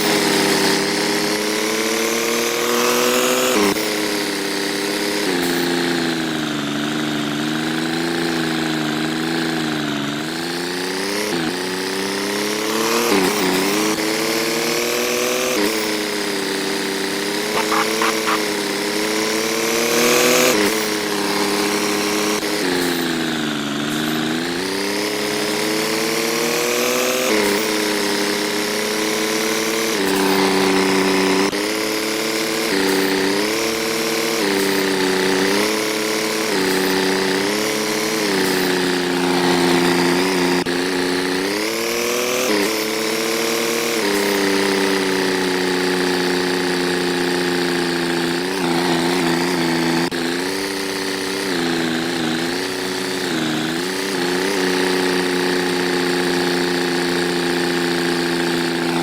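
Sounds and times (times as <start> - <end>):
engine revving up and down: 0.0 - 59.0.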